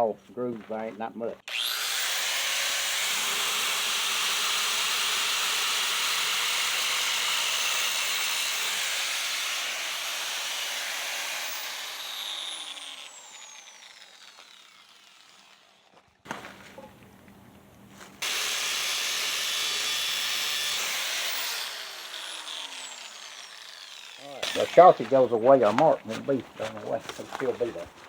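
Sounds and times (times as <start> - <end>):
grinder cutting steel: 1.4 - 16.2, 18.2 - 26.0
grinder whine coasting down: 1.5 - 16.1, 16.9 - 25.8.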